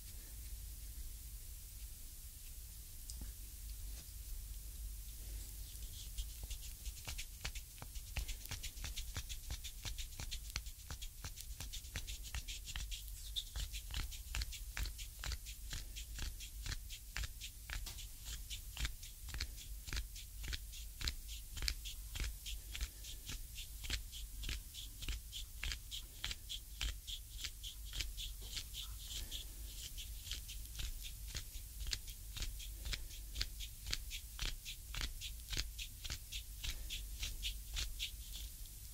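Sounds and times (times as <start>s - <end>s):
massage stick clicking on skin: 5.5s - 38.9s.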